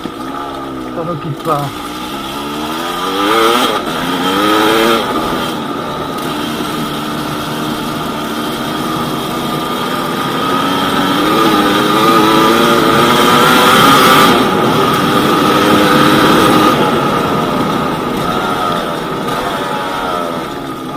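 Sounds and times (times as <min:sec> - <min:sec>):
two-stroke motorcycle engine revving: 0:00.0 - 0:20.9.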